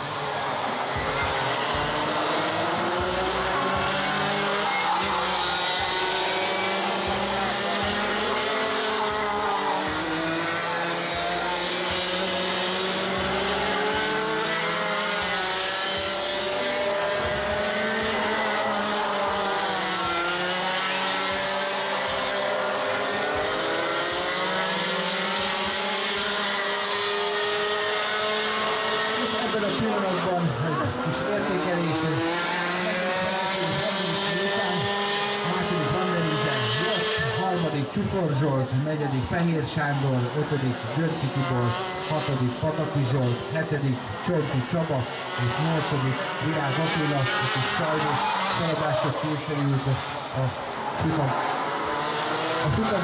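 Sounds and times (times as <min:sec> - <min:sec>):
racing kart engines revving: 0:00.0 - 0:53.0.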